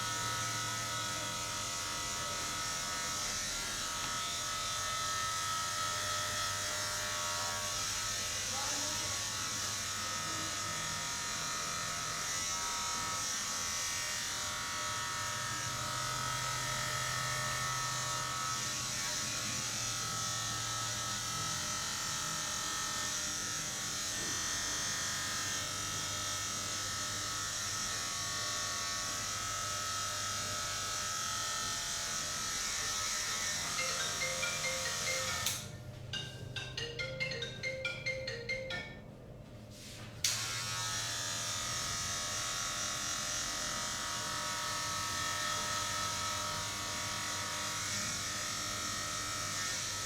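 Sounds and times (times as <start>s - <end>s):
electric clipper buzzing: 0.0s - 35.8s, 40.2s - 50.0s.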